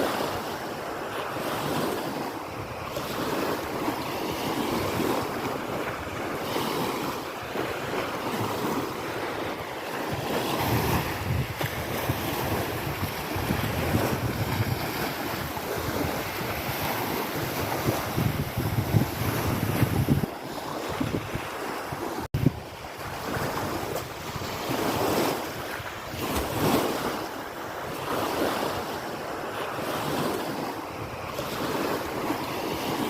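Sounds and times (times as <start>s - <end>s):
small waves washing on shore: 0.0s - 33.0s
wind buffeting microphone: 1.6s - 33.0s.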